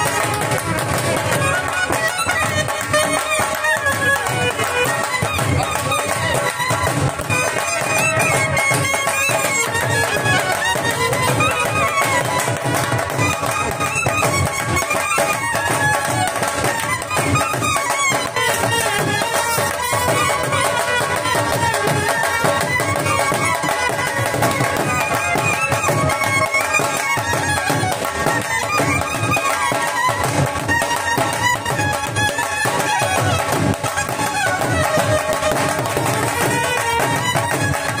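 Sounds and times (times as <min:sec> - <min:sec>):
barrel drums beating: 0:00.0 - 0:38.0.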